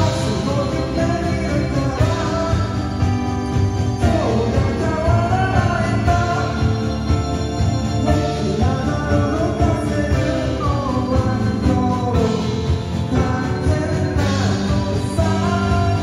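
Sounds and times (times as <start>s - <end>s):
bass guitar: 0.0s - 16.0s
drums: 0.0s - 16.0s
electric guitar: 0.0s - 16.0s
keyboards: 0.0s - 16.0s
man singing: 0.0s - 16.0s.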